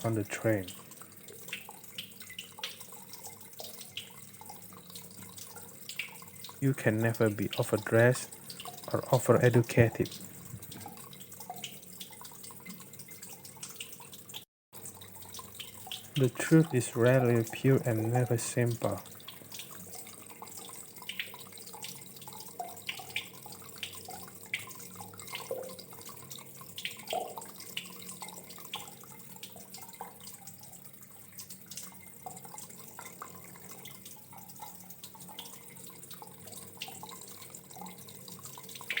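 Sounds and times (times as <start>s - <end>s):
water drips and splashes: 0.0s - 39.0s
water trickling: 0.0s - 39.0s.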